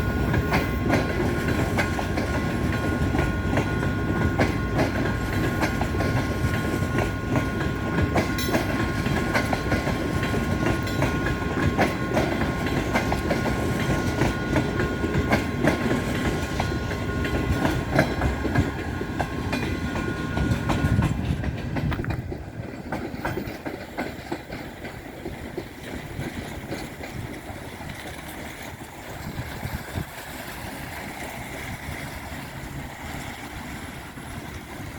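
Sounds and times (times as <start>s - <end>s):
train rumbling past: 0.0s - 34.9s
wheels clacking over rail joints: 0.0s - 34.9s.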